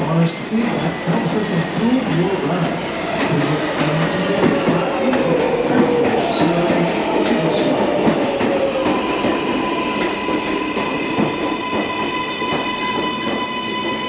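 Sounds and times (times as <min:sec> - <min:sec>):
subway wheels rumbling and rattling: 0:00.0 - 0:14.0.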